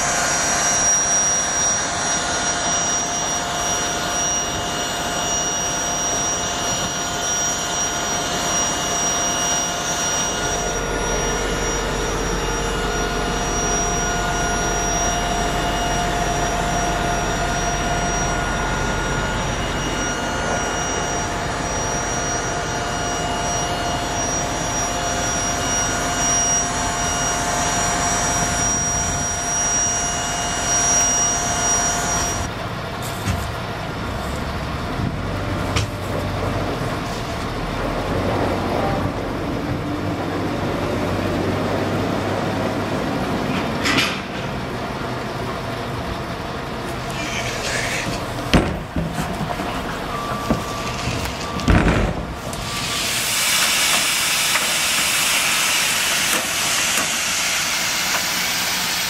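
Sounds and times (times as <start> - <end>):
deeper hum: 0.0 - 59.0
lorry engine drone with whine: 0.0 - 59.0.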